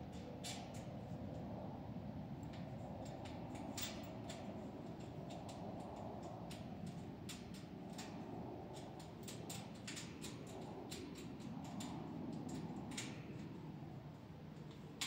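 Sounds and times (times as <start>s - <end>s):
wire mesh clicking on metal frame: 2.4s - 15.0s.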